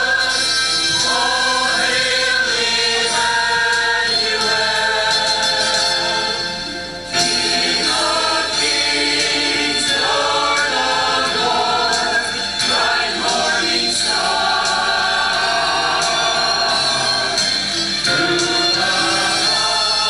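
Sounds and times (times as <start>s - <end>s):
mixed choir singing: 0.0s - 20.0s.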